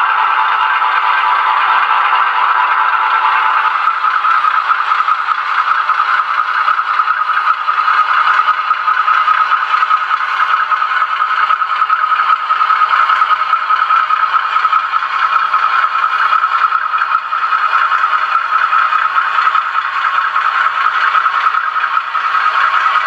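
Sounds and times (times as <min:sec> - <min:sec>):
model train motor whirring: 0:00.0 - 0:23.0
wheels rattling on track: 0:00.0 - 0:23.0.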